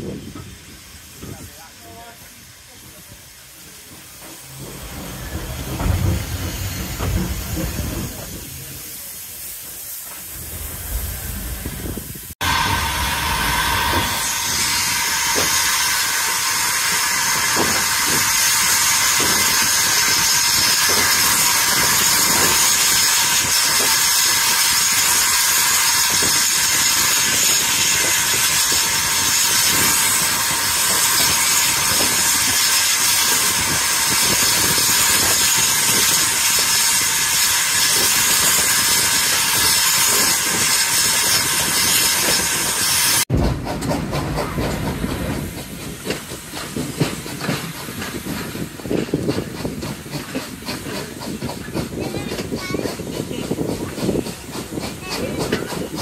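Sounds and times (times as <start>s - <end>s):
loud steam hiss: 0.0s - 56.0s.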